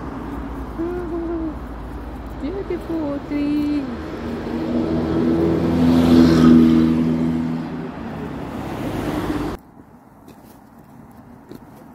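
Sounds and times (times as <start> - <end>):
car engine passing by: 0.0 - 9.6.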